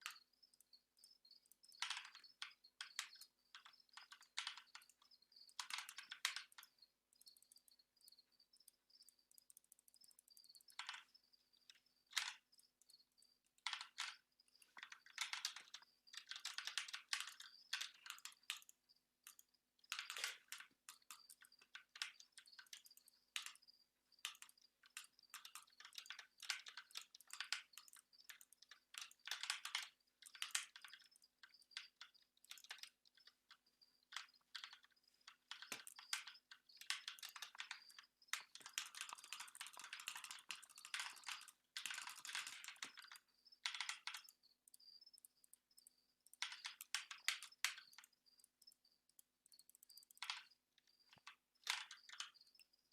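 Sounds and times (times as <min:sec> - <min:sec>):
keyboard keys clicking: 0:01.4 - 0:23.6, 0:24.2 - 0:52.7.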